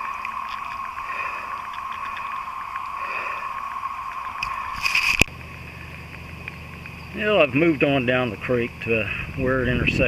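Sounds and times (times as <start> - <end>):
cicadas droning: 0.0 - 10.0
faint rapid ticking: 0.0 - 10.0.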